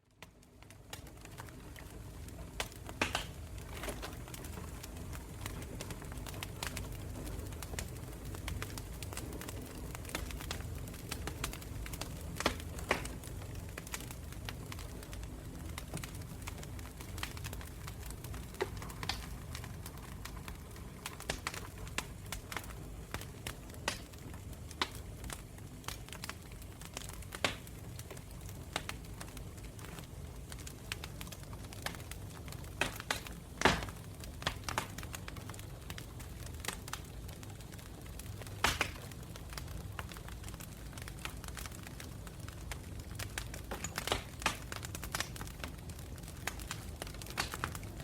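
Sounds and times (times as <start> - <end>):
low rumble of flames: 0.0 - 48.0
campfire crackling: 0.2 - 48.0.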